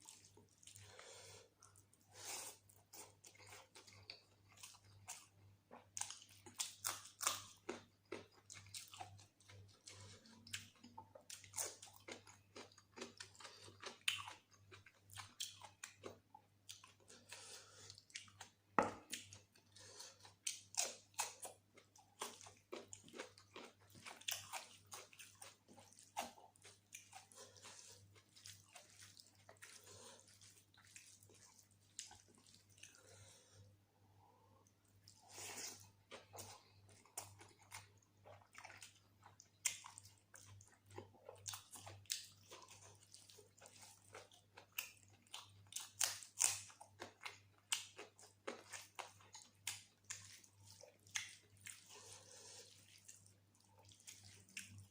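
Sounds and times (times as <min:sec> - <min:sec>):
wet chewing: 0:02.7 - 0:33.4, 0:34.9 - 0:54.9.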